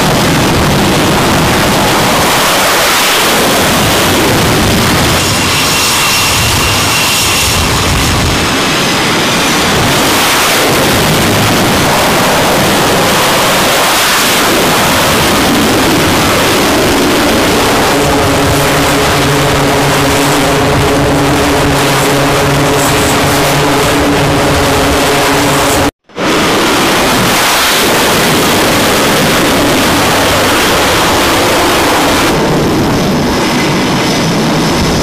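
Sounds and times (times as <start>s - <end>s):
high whine: 0.0s - 35.0s
jet engines running loudly: 0.0s - 35.0s
turboprop propeller hum: 0.0s - 35.0s.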